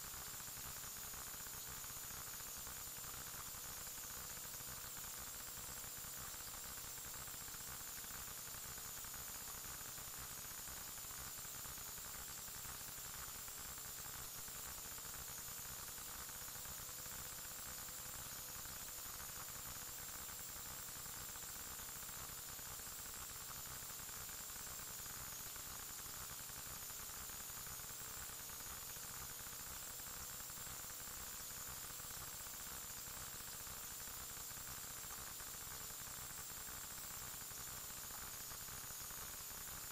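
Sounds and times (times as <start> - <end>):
electronic static hiss: 0.0 - 16.8, 17.4 - 39.9.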